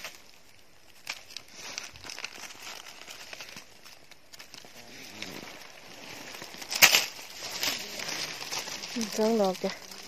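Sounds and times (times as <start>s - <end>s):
dry leaves rustling: 0.0s - 10.0s
sharp crackles: 0.0s - 10.0s.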